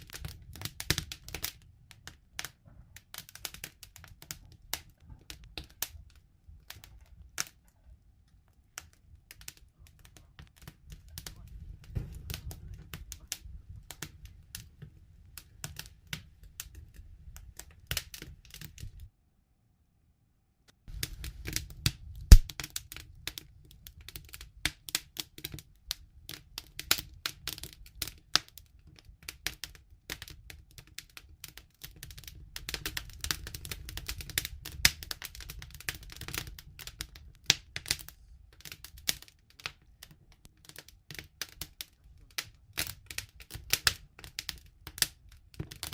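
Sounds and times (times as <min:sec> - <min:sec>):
wood fire crackling and popping: 0:00.0 - 0:19.1, 0:20.8 - 0:45.9.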